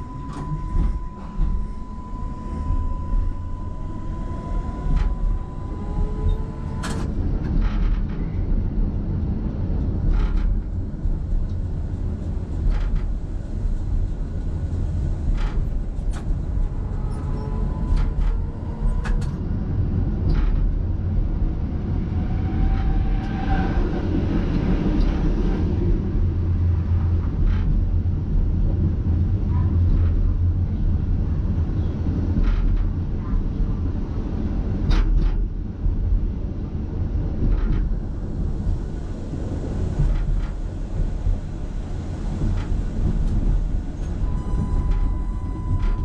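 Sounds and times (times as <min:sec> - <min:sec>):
tram rumbling on track: 0:00.0 - 0:46.0.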